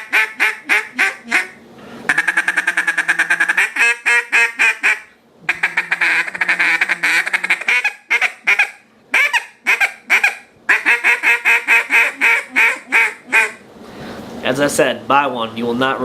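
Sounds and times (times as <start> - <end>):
duck call quacking: 0.0 - 13.6.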